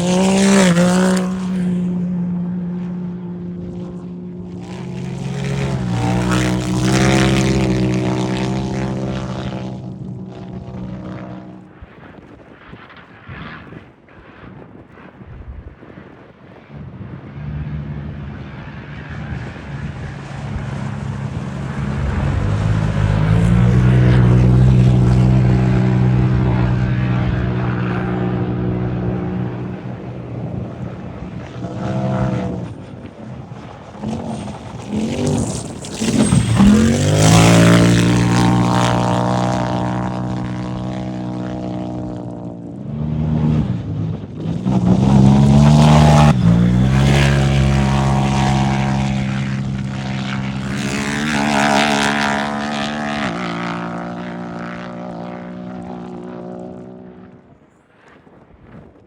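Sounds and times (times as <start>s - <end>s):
race vehicle engines passing by: 0.0s - 13.8s, 16.3s - 58.2s.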